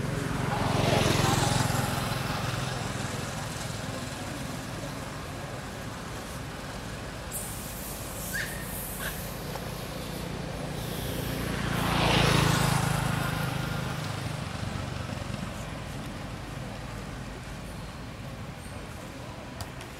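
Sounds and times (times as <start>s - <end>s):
vehicle passing by: 0.0s - 6.9s, 8.1s - 17.6s
traffic hum: 0.0s - 19.9s.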